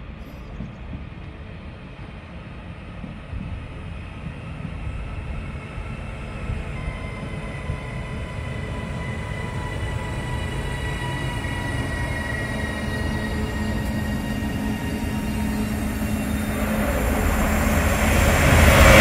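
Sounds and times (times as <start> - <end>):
electric train rumble: 0.0 - 19.0.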